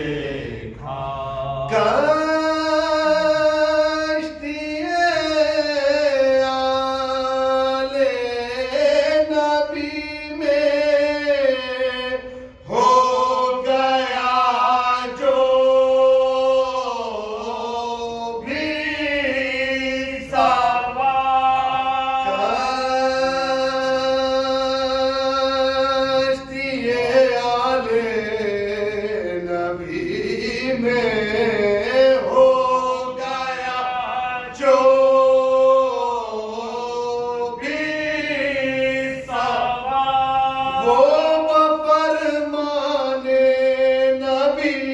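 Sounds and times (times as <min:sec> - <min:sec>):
man chanting into a microphone: 0:00.0 - 0:44.9
men and boy singing along: 0:00.0 - 0:44.9.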